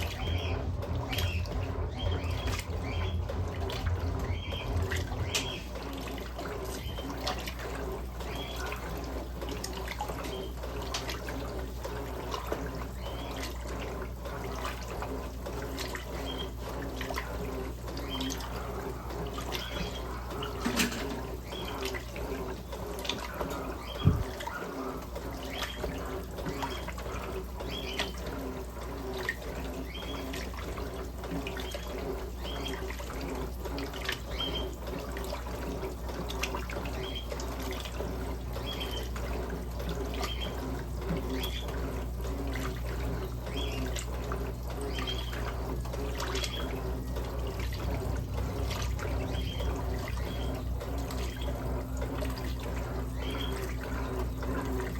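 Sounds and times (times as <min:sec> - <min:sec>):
washing machine water sloshing: 0:00.0 - 0:54.9.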